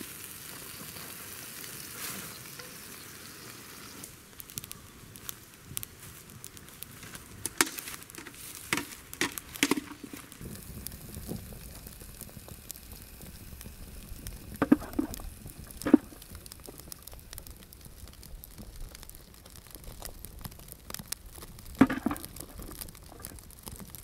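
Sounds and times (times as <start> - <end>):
wood fire crackling: 0.0 - 24.0
sharp pops and clicks: 4.4 - 24.0.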